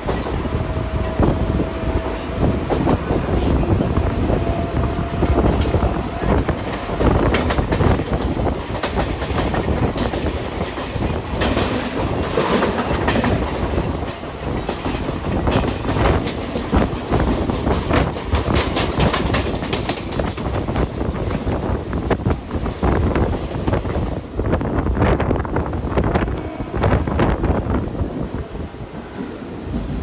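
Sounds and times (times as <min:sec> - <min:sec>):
train passing alongside: 0:00.0 - 0:30.0
train wheels clattering over rails: 0:00.0 - 0:30.0.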